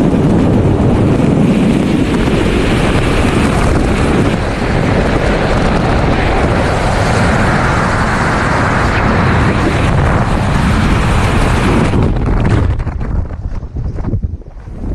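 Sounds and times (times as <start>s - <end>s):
freefall wind buffeting microphone: 0.0s - 14.9s.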